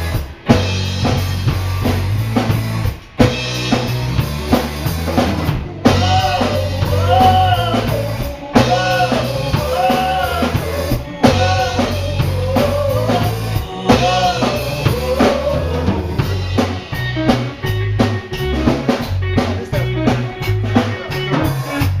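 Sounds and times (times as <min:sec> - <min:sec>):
bass: 0:00.0 - 0:22.0
drum kit: 0:00.0 - 0:22.0.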